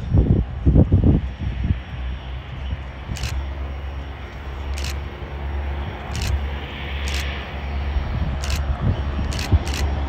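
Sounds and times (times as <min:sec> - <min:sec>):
airplane engine drone: 0:00.0 - 0:10.0
low rumbles: 0:00.0 - 0:10.0.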